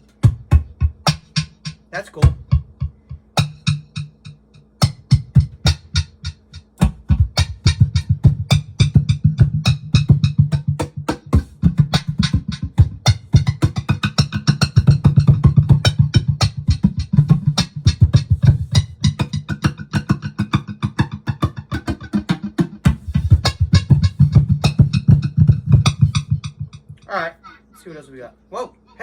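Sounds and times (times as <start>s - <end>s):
cajon hand strikes: 0.0s - 4.2s, 4.8s - 27.0s.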